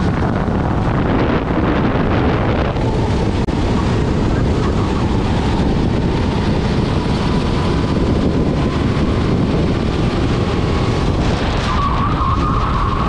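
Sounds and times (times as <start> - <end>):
kart engine running: 0.0 - 13.0
wind buffeting microphone: 0.0 - 13.0.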